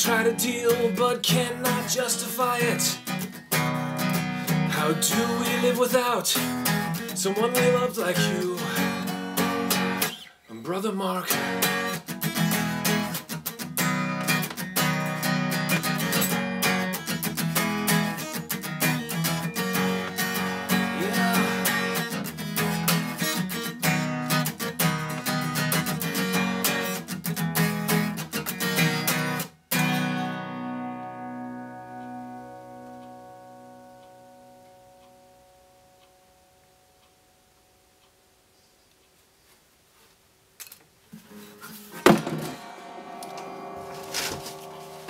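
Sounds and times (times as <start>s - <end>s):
acoustic guitar strumming: 0.0s - 37.8s, 41.2s - 45.0s.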